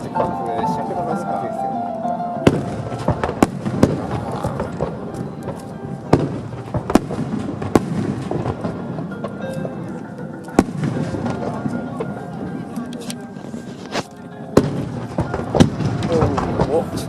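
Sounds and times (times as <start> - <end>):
firework shells bursting: 2.0 - 9.9, 10.5 - 17.0
firework crackle and rumble: 2.4 - 17.0.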